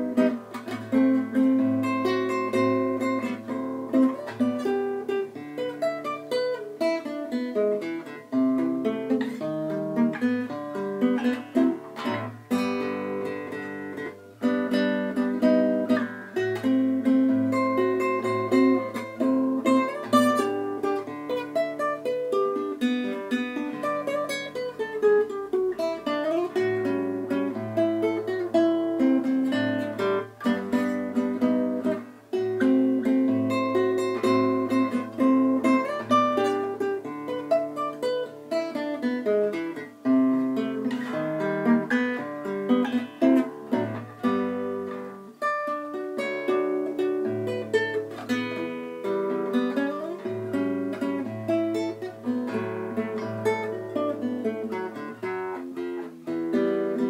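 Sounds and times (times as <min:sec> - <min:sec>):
fingerpicked classical guitar: 0:00.0 - 0:57.0.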